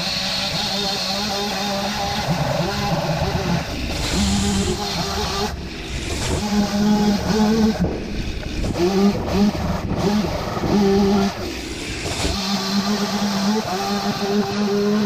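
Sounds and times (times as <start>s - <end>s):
chainsaw cutting timber: 0.0s - 15.0s.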